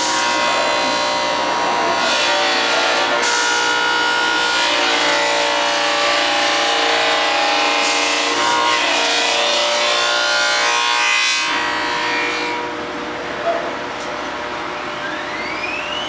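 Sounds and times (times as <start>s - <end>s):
cnc router whining: 0.0s - 16.0s.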